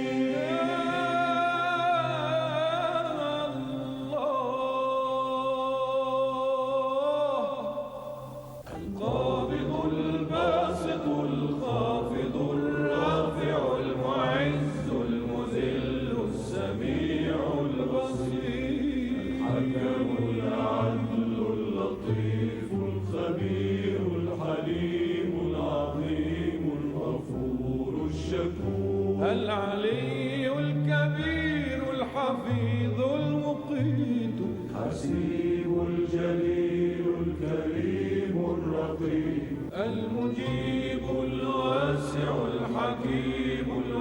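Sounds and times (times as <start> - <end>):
several voices chanting: 0.0 - 44.0.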